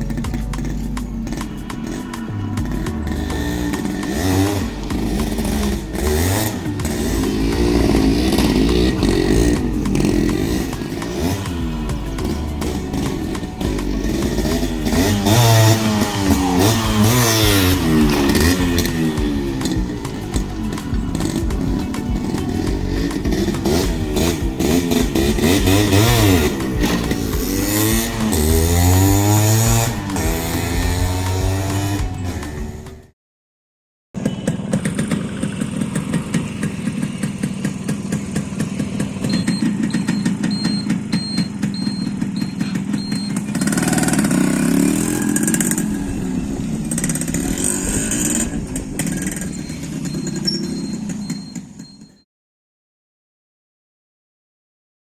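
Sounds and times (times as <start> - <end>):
motorcycle engine revving: 0.0 - 33.1, 34.2 - 52.2.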